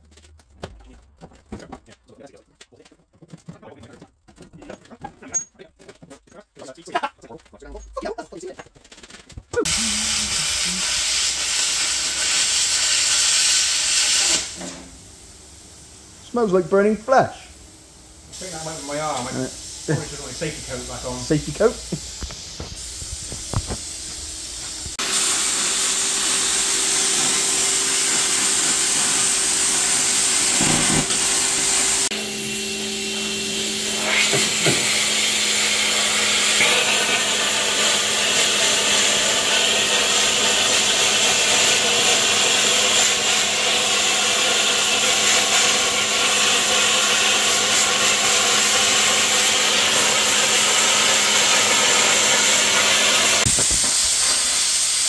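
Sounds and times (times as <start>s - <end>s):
plasma cutter hissing: 9.6s - 55.0s.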